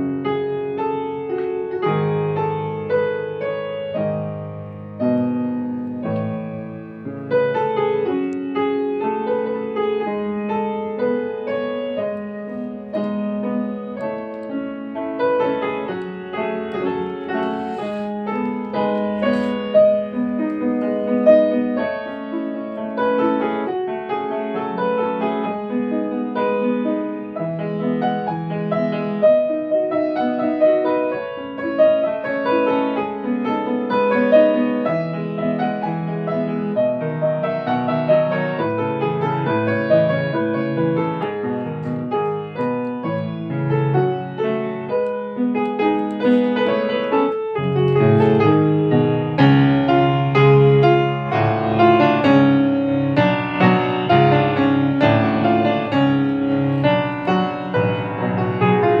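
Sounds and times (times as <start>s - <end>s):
solo piano piece: 0.0s - 59.0s.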